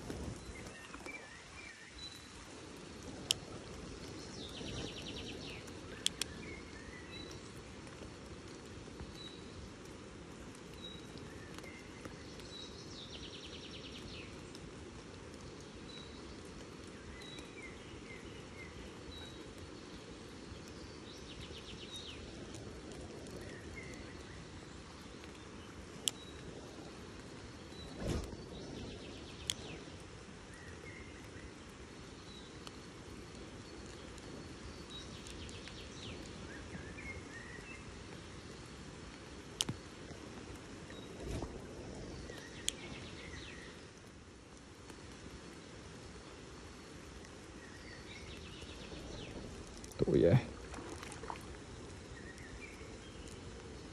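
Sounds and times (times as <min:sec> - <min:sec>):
outdoor background rush: 0:00.0 - 0:53.9.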